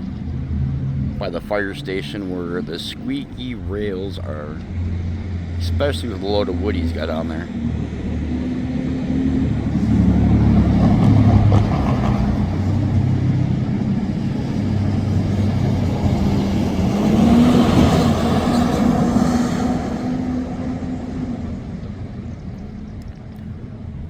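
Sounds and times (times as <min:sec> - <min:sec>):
locomotive diesel engine: 0:00.0 - 0:24.0
moving train noise: 0:00.0 - 0:24.0.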